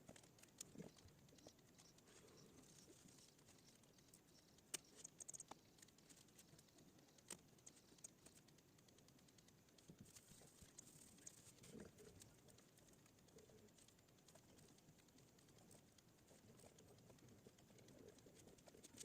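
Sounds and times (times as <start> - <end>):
computer mouse clicks: 0.0 - 19.0.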